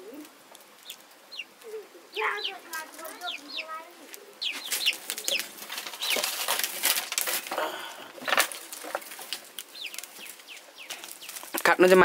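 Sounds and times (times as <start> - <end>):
birds chirping: 0.0 - 12.0
crackles and clicks: 0.0 - 12.0.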